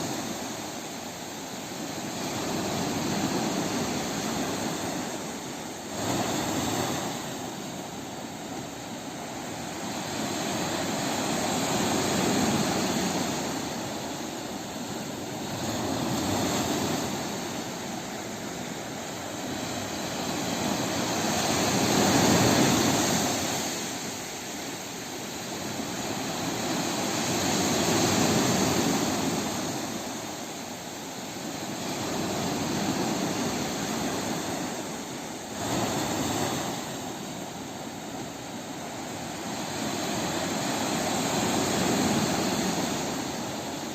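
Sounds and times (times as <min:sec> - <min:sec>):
sea waves washing in: 0:00.0 - 0:43.9.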